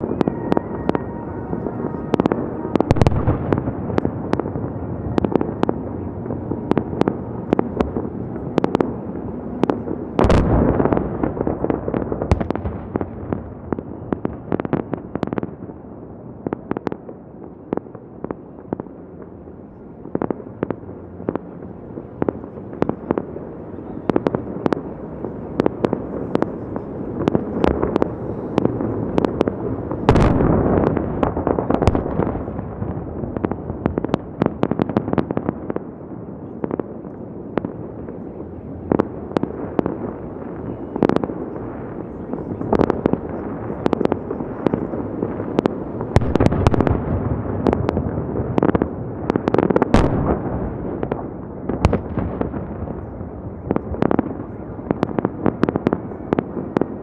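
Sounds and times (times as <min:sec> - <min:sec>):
continuous rumble: 0:00.0 - 0:57.0
fireworks bangs and crackling: 0:00.0 - 0:57.0
heavy fireworks booms: 0:00.0 - 0:57.0.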